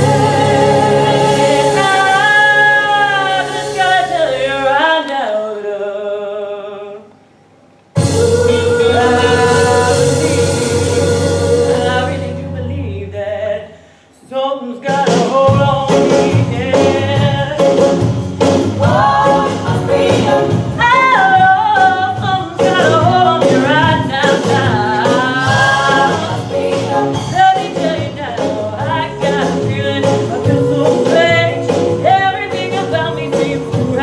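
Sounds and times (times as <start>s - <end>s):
band accompaniment with drums: 0.0s - 4.4s, 8.0s - 12.6s, 14.8s - 34.0s
woman singing a soul ballad: 0.0s - 7.0s, 8.1s - 17.9s, 18.8s - 34.0s.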